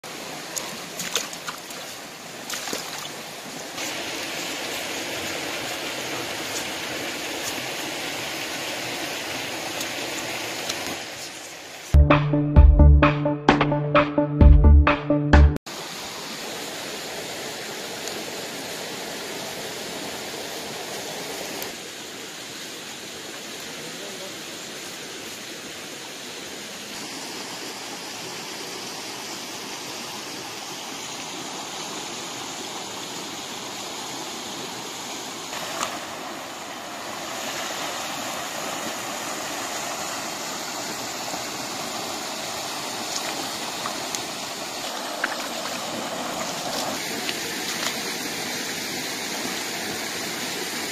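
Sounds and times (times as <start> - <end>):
rocky stream rushing: 0.0 - 12.0, 15.7 - 50.9.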